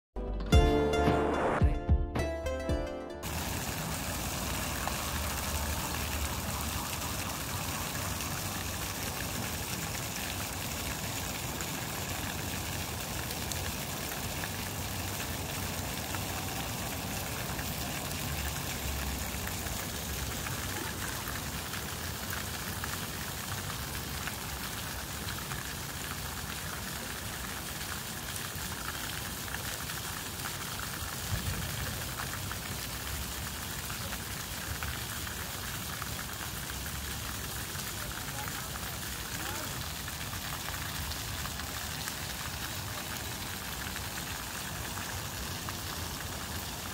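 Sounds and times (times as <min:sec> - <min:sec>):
fountain jets spraying: 0:03.2 - 0:46.9.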